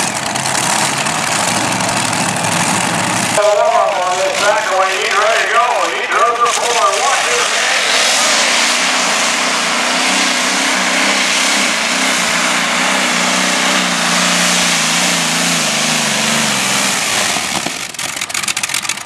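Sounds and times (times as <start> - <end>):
tractor engines running flat out: 0.0 - 19.0.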